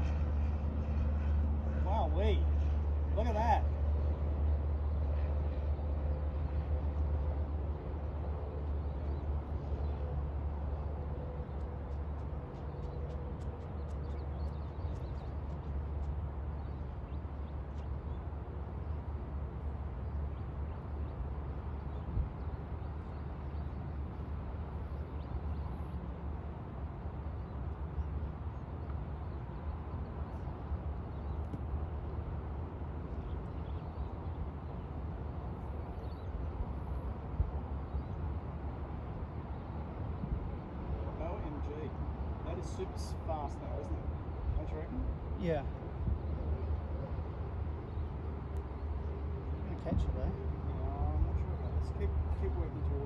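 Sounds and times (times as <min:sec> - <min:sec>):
wind rumbling on microphone: 0:03.8 - 0:53.0.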